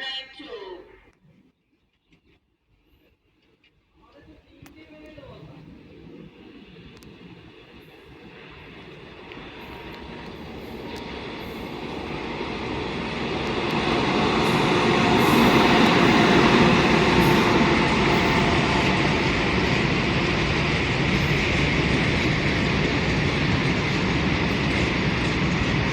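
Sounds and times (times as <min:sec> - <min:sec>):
freight train rumbling past: 0:04.3 - 0:25.9.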